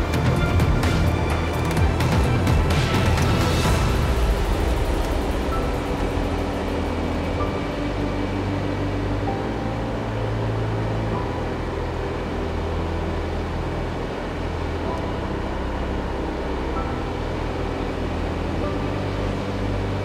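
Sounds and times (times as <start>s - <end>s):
car road noise: 0.0s - 20.0s
slow music with low bass: 0.0s - 20.0s.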